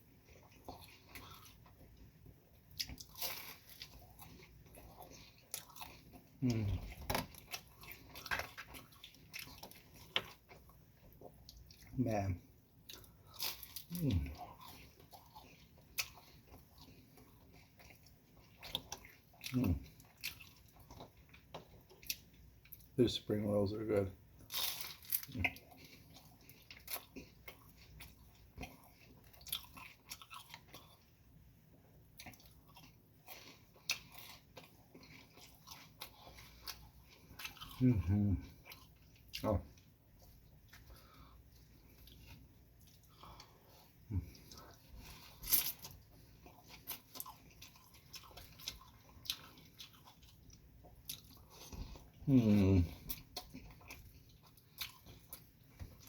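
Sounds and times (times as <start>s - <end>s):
person chewing food: 0.0s - 23.0s, 24.2s - 56.0s.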